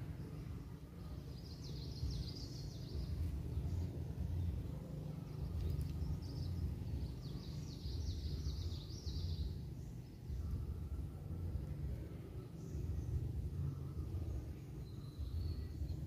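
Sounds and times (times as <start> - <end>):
bird chirping: 0.0 - 16.0
steady low rumble: 0.0 - 16.0.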